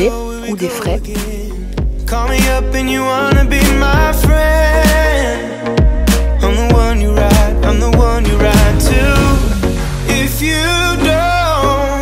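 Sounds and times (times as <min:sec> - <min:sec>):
pop music with heavy bass: 0:00.0 - 0:12.0.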